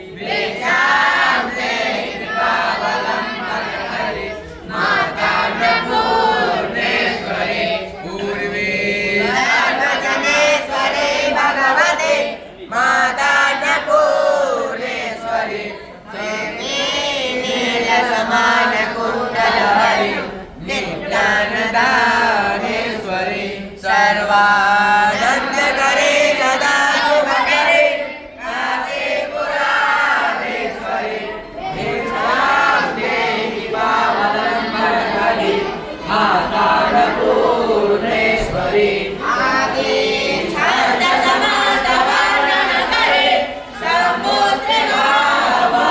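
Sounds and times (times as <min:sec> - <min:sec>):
group chanting a hymn in unison: 0:00.0 - 0:45.9.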